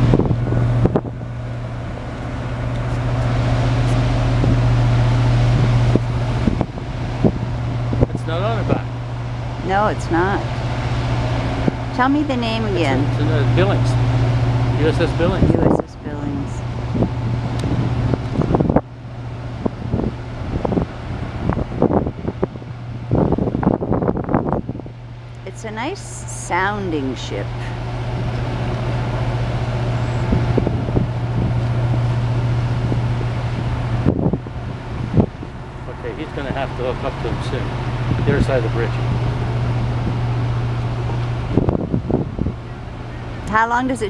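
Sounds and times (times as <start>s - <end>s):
wind noise: 0.0s - 26.0s, 27.6s - 44.0s
ship machinery low hum: 0.0s - 44.0s.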